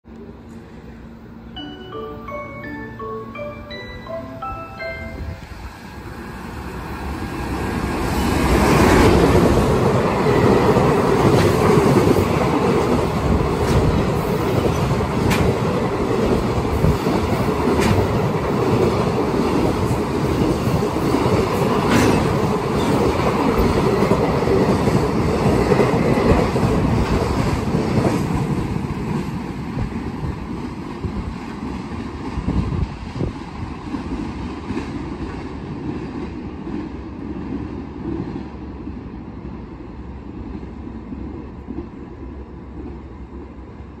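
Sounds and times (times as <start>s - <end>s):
freight train passing: 0.1s - 44.0s.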